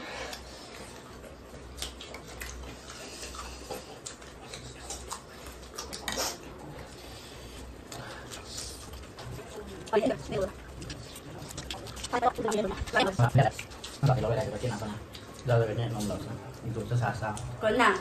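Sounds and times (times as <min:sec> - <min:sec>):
chewing sounds: 0:00.0 - 0:18.0.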